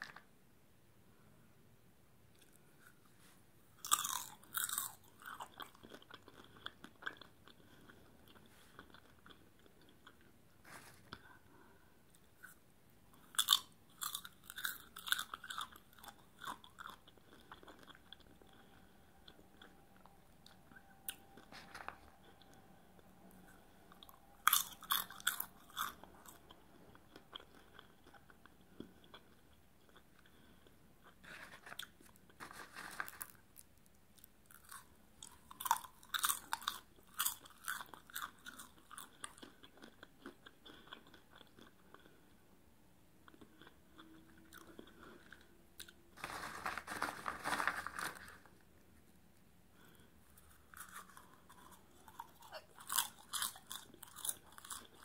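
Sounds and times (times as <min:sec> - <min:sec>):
chewing popcorn: 0:03.8 - 0:42.5, 0:43.2 - 0:55.0.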